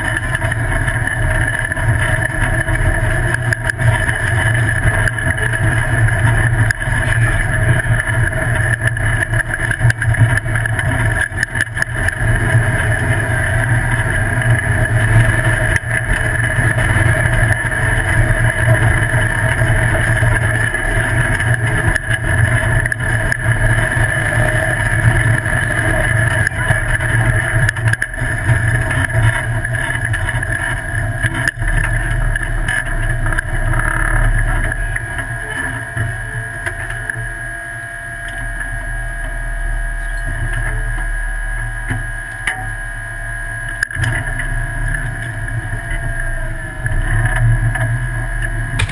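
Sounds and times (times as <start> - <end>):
buggy engine running: 0.0 - 48.9.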